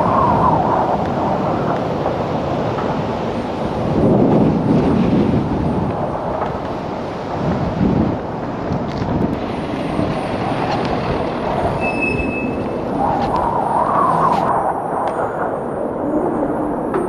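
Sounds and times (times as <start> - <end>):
vehicle noise: 0.0 - 17.0
wind rushing: 0.0 - 17.0.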